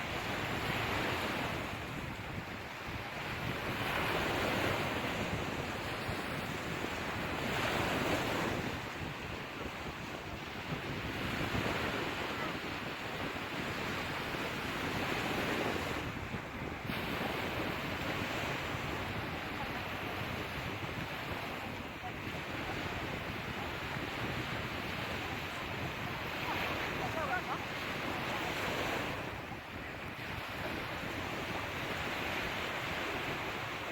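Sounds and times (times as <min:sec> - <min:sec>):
sea waves washing onto shore: 0:00.0 - 0:33.9.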